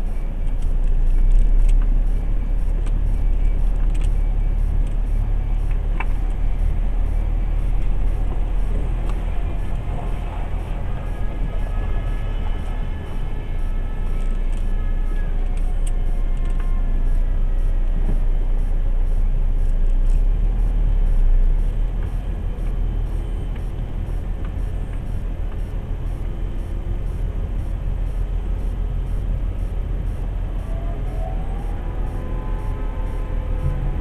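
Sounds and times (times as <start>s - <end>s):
diesel truck engine rumbling: 0.0s - 34.0s.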